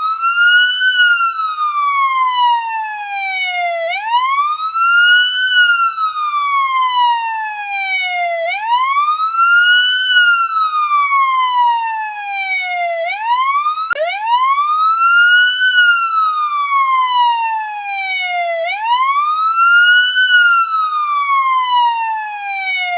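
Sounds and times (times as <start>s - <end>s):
police siren wailing: 0.0s - 22.9s.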